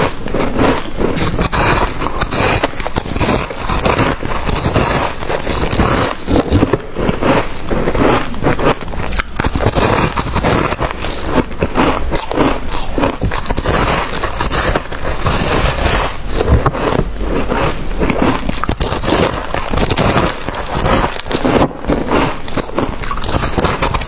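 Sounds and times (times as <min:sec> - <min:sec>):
crunching ice between teeth: 0:00.0 - 0:24.0.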